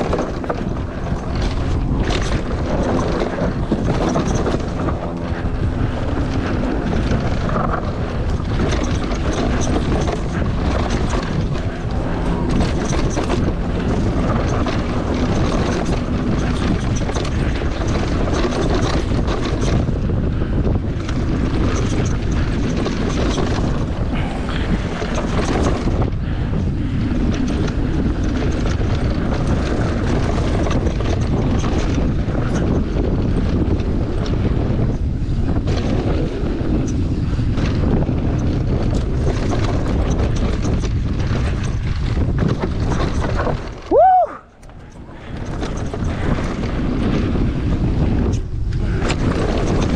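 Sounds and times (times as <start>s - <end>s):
bike rattling over rocks: 0.0s - 49.9s
tyres rolling over rough ground: 0.0s - 49.9s
wind buffeting microphone: 0.0s - 49.9s.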